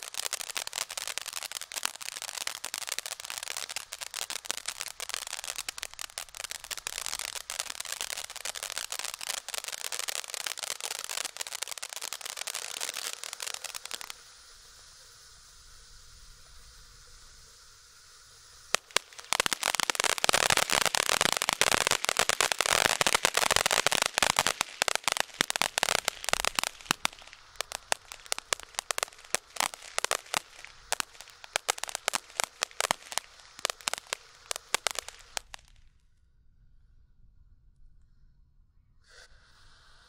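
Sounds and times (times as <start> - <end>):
firework fountain hissing: 0.0 - 35.8, 39.1 - 40.0
crackling firework pops: 0.0 - 35.9.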